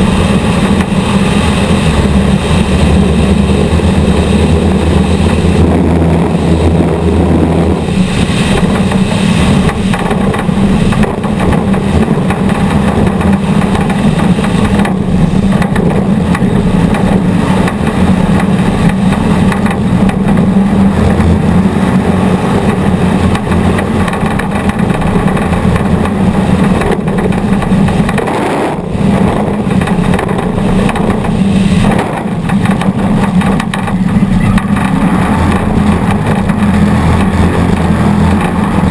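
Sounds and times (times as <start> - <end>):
off-road vehicle engine running hard: 0.0 - 38.9.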